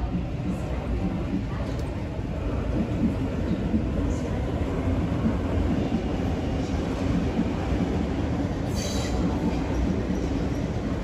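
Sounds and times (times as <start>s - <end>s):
electric train rumbling on rails: 0.0s - 11.0s.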